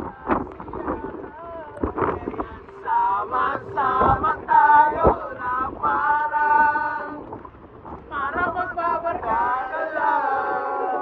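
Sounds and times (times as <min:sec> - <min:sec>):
group of people singing: 0:00.0 - 0:07.4, 0:08.0 - 0:11.0.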